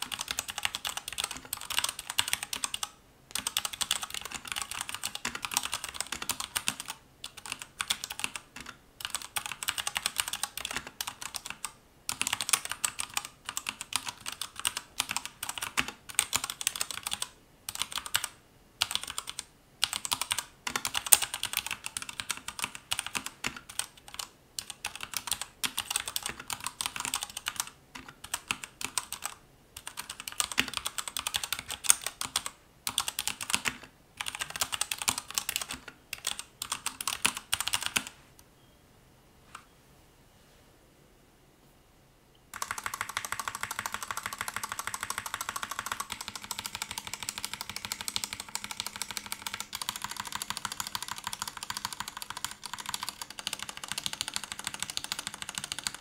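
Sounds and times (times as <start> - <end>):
mechanical keyboard typing: 0.0 - 38.2, 42.5 - 56.0.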